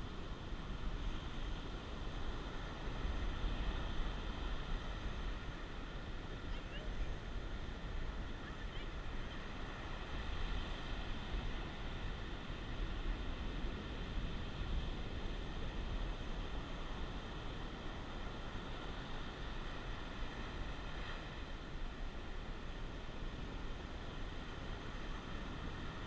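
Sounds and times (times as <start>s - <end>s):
ocean surf washing on beach: 0.0s - 26.0s
wind rumbling on microphone: 0.0s - 26.0s.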